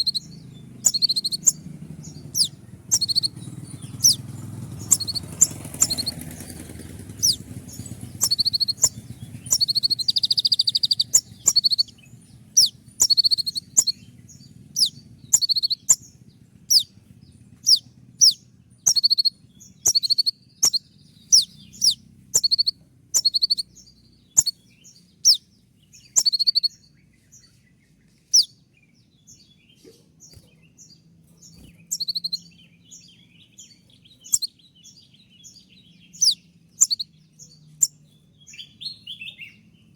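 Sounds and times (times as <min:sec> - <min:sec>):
sunbird singing high chirps: 0:00.0 - 0:39.9.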